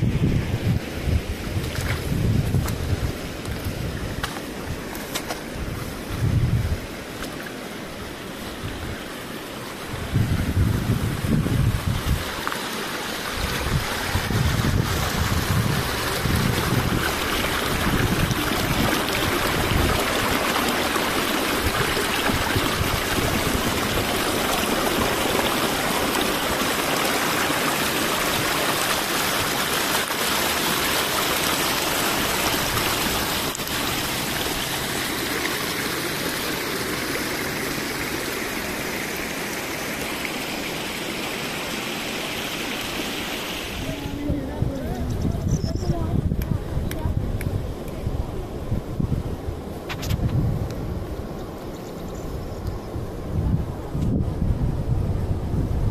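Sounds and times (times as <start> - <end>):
stream splashing over rocks: 0.0 - 45.2.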